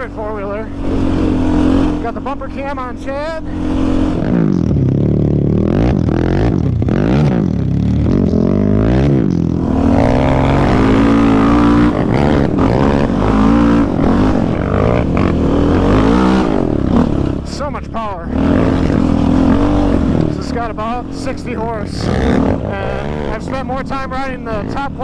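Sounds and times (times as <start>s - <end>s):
quad engine revving: 0.0s - 25.0s.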